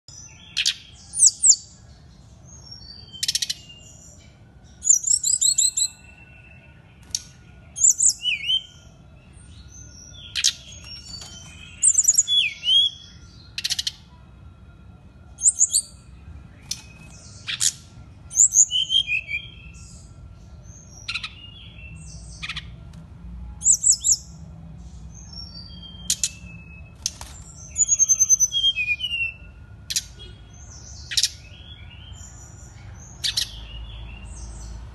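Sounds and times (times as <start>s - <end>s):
bird whistles and trills: 0.1s - 1.8s, 2.6s - 14.1s, 15.4s - 20.1s, 20.7s - 22.8s, 23.6s - 24.4s, 25.1s - 34.8s.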